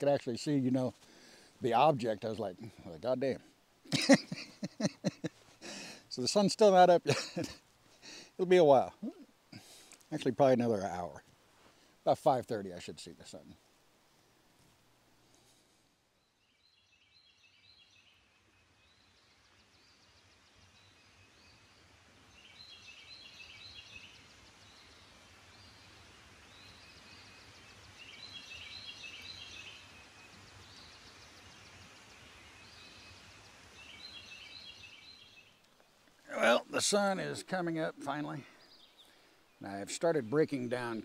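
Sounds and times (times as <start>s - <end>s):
faint high hiss: 0.0s - 41.0s.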